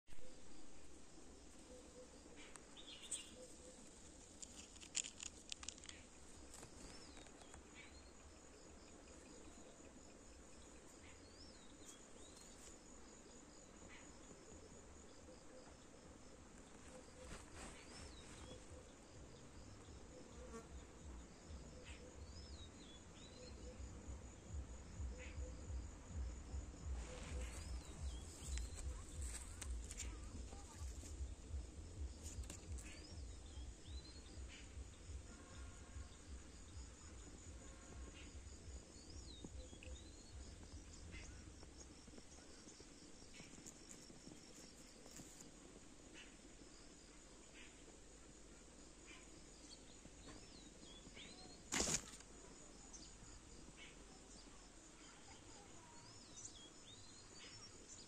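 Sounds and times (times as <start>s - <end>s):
insects trilling: 0.2s - 58.0s.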